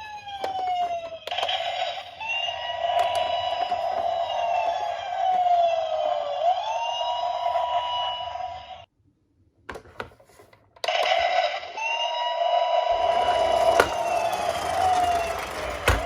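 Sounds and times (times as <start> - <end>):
electronic toy sirens wailing: 0.0 - 8.8, 11.2 - 16.0.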